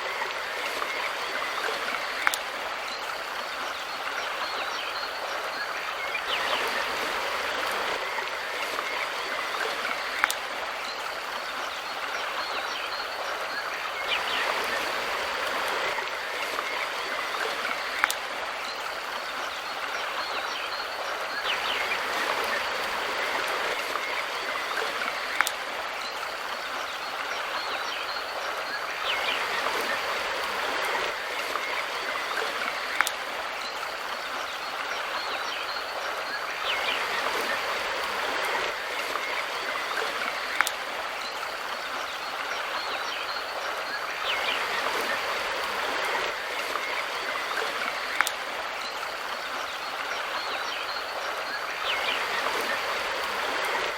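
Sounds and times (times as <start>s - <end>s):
river flowing over rocks: 0.0s - 53.9s.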